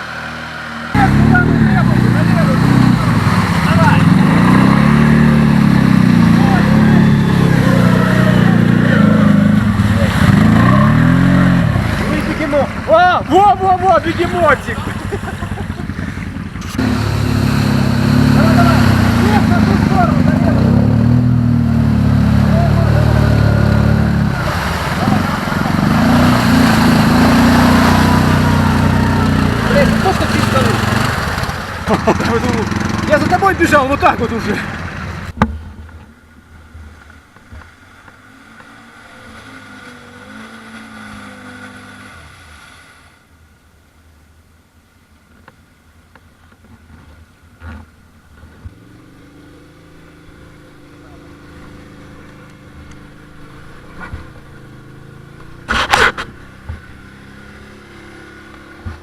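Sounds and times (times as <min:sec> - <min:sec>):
atv engine revving: 0:00.0 - 0:35.4, 0:37.6 - 0:43.2, 0:47.6 - 0:59.0.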